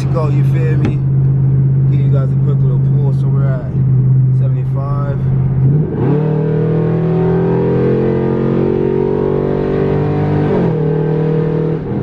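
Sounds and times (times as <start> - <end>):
car exhaust drone accelerating: 0.0 - 12.0.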